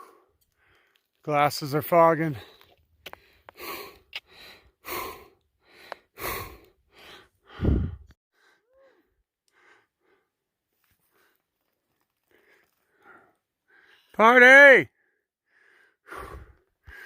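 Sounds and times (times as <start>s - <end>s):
person breathing heavily: 0.0s - 1.0s, 2.3s - 11.5s, 12.2s - 14.2s, 15.0s - 17.0s.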